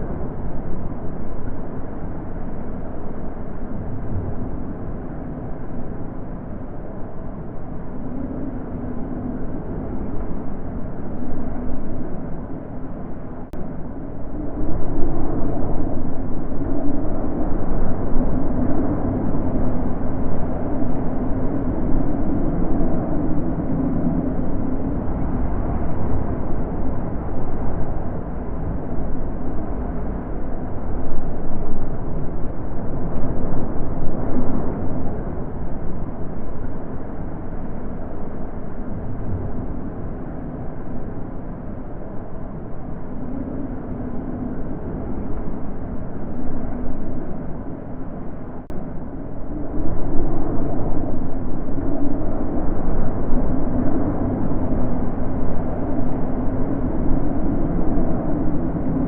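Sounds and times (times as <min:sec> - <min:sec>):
wind blowing: 0:00.0 - 0:59.0.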